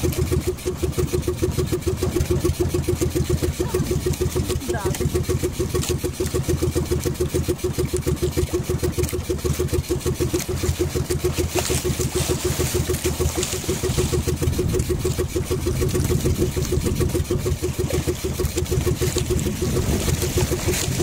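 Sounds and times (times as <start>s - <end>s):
boat engine puttering: 0.0s - 21.0s.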